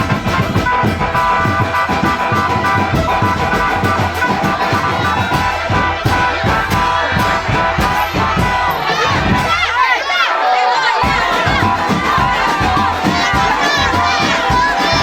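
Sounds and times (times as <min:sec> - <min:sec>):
rapid drum strokes: 0:00.0 - 0:10.2, 0:11.0 - 0:15.0
steady melody line: 0:00.0 - 0:15.0.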